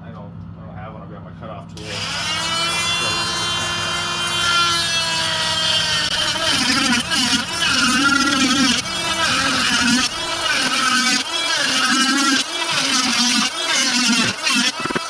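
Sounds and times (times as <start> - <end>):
cutoff tool motor whine: 1.8 - 15.0.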